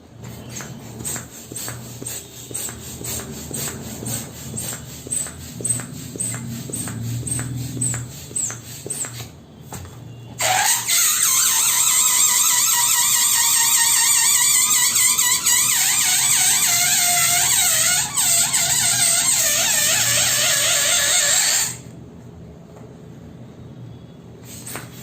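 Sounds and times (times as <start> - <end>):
balloon deflating with squeal: 0.3 - 9.3, 10.4 - 21.9.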